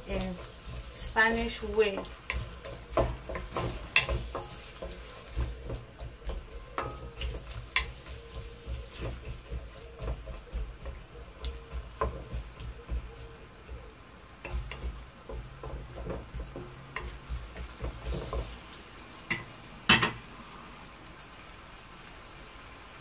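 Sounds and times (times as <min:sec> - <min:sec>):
wooden spatula scraping a pan: 0:00.0 - 0:19.5
onions frying in oil: 0:00.0 - 0:23.0.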